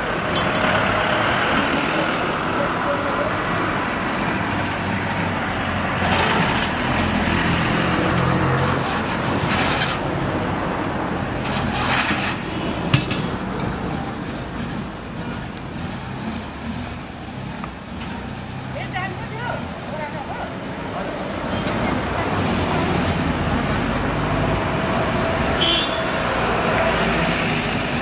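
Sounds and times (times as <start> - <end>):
steam locomotive rumble: 0.0 - 28.0.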